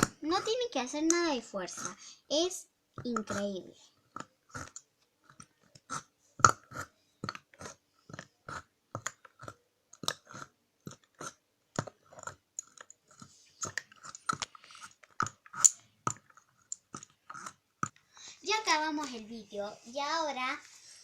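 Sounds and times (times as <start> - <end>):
slime squelching in a jar: 0.0 - 19.7.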